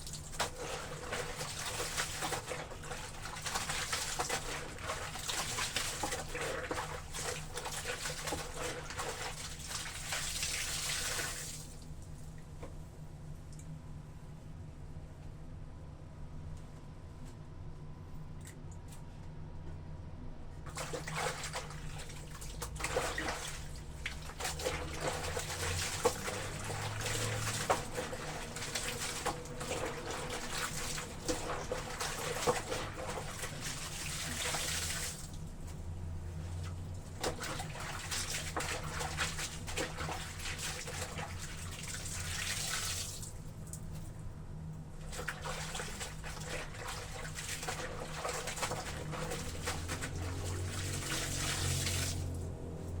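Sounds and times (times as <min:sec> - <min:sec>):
water sloshing in a tub: 0:00.0 - 0:12.8, 0:20.6 - 0:53.0.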